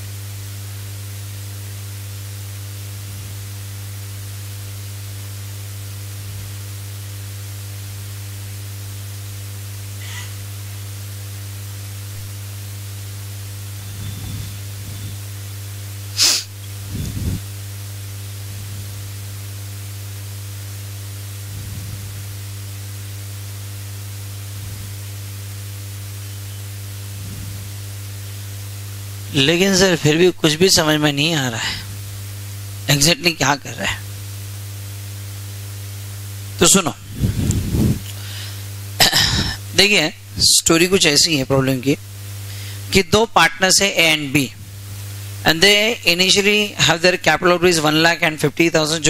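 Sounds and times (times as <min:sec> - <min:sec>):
electrical mains hum and hiss: 0:00.0 - 0:49.0.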